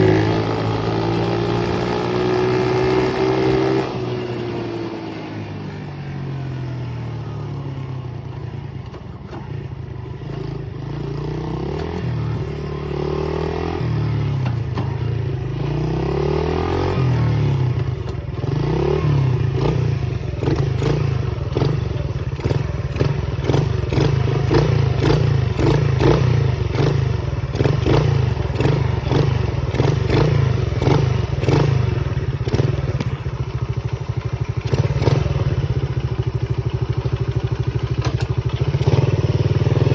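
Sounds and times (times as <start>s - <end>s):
pit bike engine revving: 0.0s - 4.9s, 10.2s - 39.9s.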